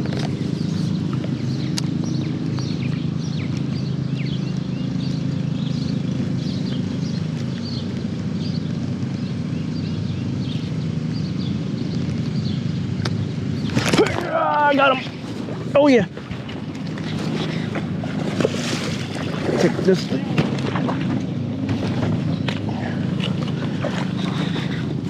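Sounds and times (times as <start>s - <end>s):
small birds chirping: 0.0s - 20.3s, 21.0s - 25.0s
steady low hum: 0.0s - 25.0s.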